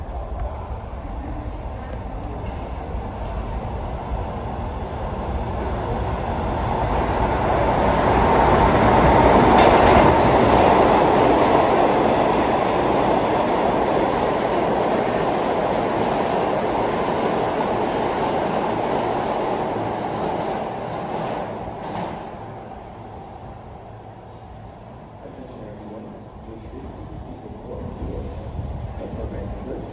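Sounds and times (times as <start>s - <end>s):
subway train passing: 0.0s - 29.9s.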